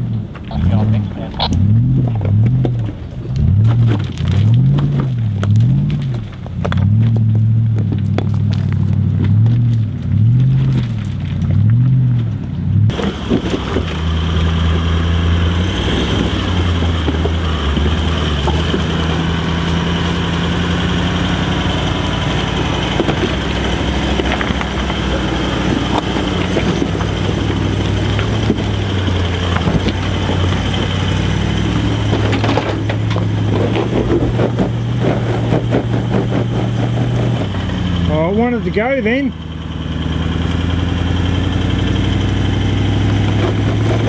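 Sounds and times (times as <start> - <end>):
off-road engines droning: 0.0 - 44.0.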